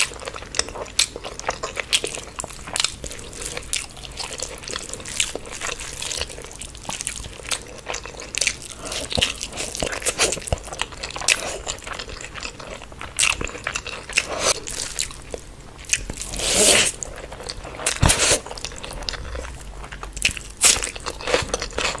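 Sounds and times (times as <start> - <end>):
chewing and biting food: 0.0 - 22.0.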